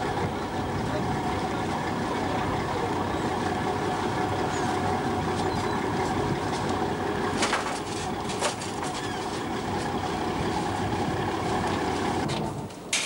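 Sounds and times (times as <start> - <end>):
boat engine droning: 0.0 - 12.9.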